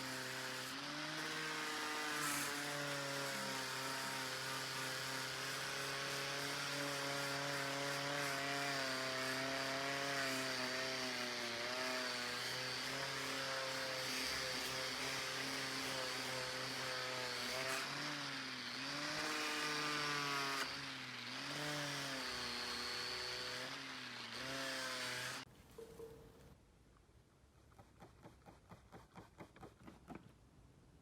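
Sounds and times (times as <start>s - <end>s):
power tool motor running: 0.0s - 25.4s.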